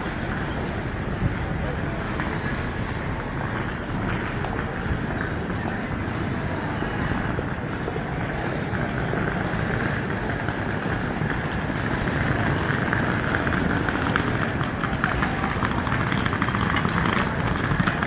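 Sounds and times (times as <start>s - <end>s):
crowd talking: 0.0s - 18.0s.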